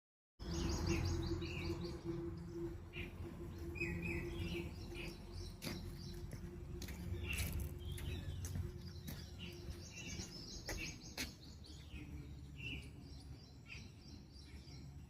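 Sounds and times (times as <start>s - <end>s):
birds chirping: 0.4s - 15.0s
low hum and rumble: 0.4s - 15.0s.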